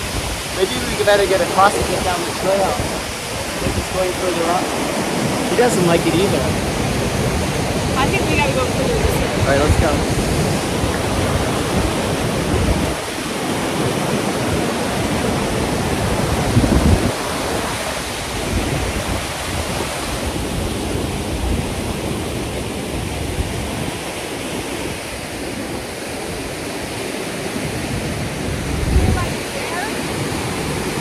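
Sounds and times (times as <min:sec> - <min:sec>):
mountain river rushing: 0:00.0 - 0:31.0.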